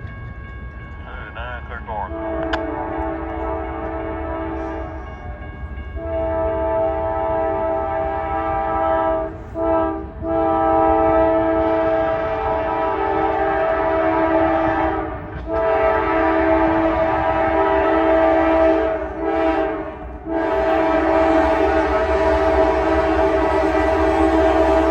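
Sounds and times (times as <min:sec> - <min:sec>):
low rumble of locomotive: 0:00.0 - 0:24.9
locomotive air horn blasts: 0:02.0 - 0:05.0, 0:05.9 - 0:24.9.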